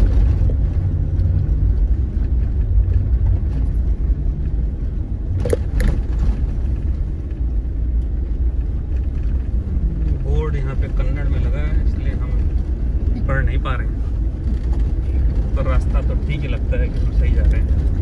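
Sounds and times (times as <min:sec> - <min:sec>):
car rumbling on dirt track: 0:00.0 - 0:18.0.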